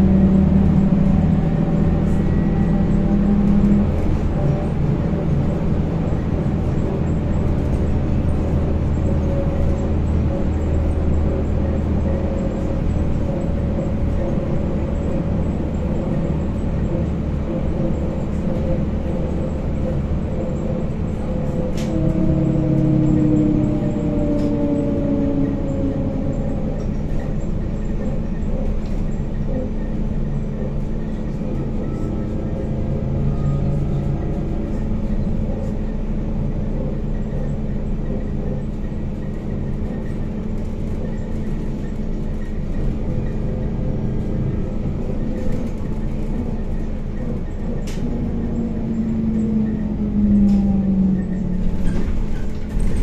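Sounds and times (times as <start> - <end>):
road and tyre rumble: 0.0 - 53.0.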